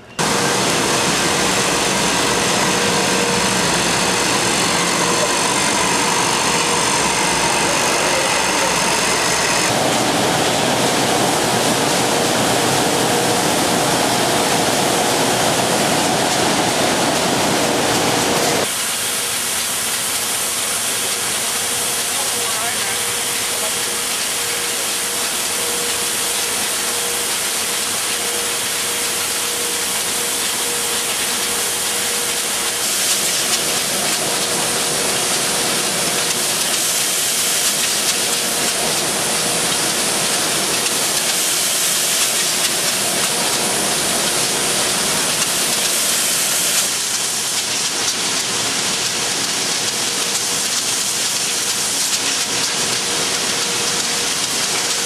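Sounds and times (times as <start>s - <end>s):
machinery hissing din: 0.0s - 55.0s.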